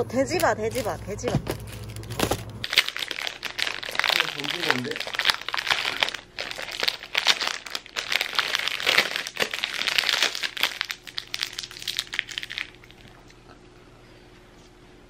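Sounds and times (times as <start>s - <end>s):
plastic wrapper crinkling: 0.3s - 13.2s.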